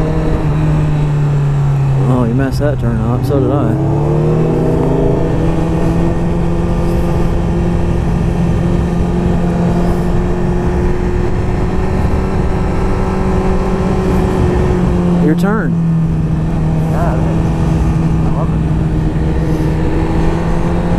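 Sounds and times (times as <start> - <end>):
motorcycle engine cruising: 0.0 - 20.9
wind rushing over microphone: 0.0 - 20.9.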